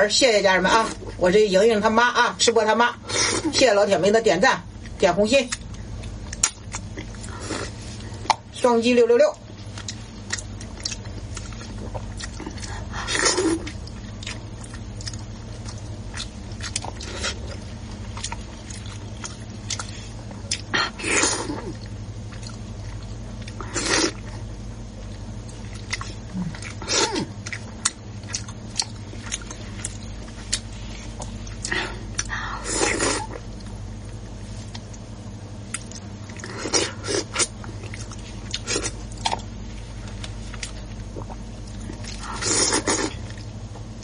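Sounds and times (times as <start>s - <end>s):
steady low hum: 0.0s - 44.0s
person chewing and biting: 5.5s - 8.4s, 9.6s - 24.4s, 25.0s - 44.0s.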